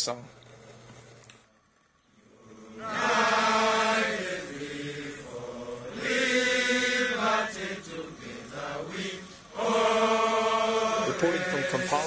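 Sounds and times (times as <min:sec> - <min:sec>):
soldiers singing in chorus: 0:02.1 - 0:12.0.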